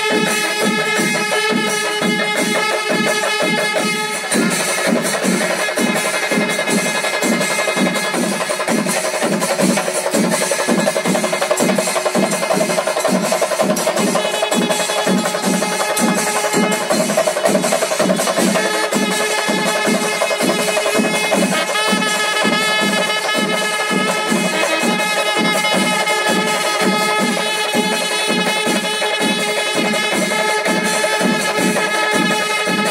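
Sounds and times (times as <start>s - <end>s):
steady drum beat: 0.0s - 32.9s.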